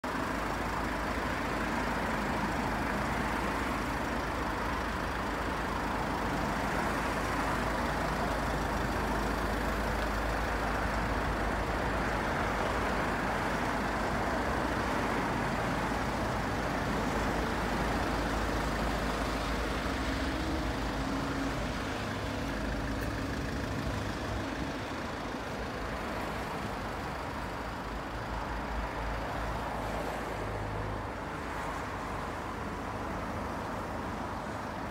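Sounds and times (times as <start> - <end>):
motor vehicle rumble: 0.0 - 34.9.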